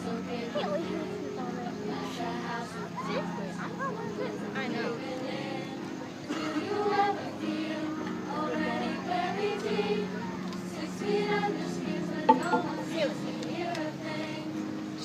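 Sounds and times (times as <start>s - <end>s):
backing music track: 0.0s - 15.0s.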